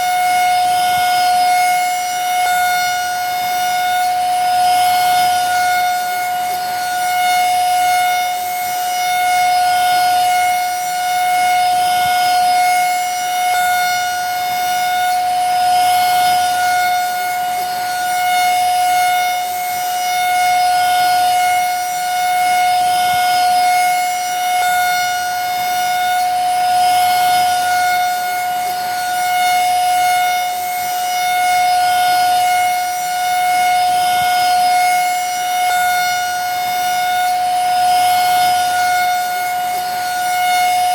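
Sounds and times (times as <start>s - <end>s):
vacuum cleaner motor whining: 0.0s - 40.9s.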